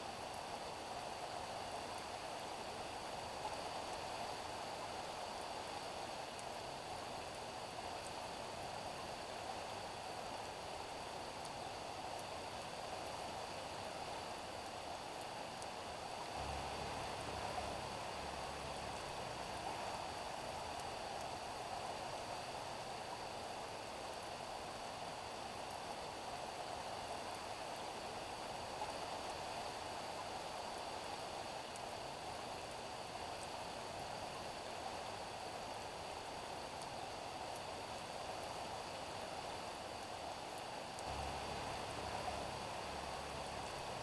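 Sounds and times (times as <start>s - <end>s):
rain falling on street: 0.1s - 44.0s.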